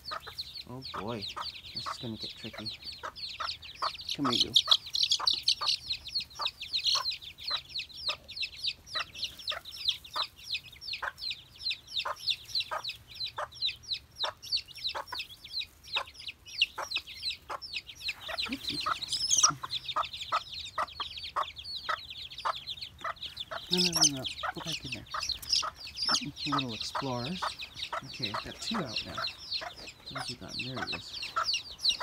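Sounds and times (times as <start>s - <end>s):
chicks peeping: 0.0s - 32.0s
hen clucking: 0.0s - 32.0s.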